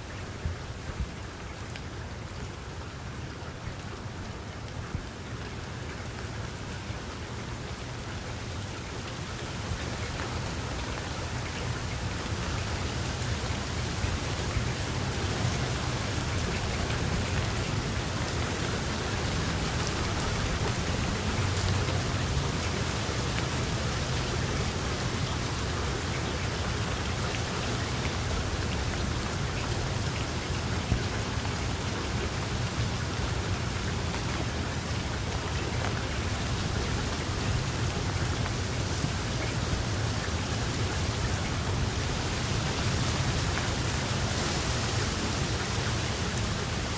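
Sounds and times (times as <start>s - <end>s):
steady rain falling: 0.0s - 46.9s
raindrops ticking: 5.3s - 46.9s.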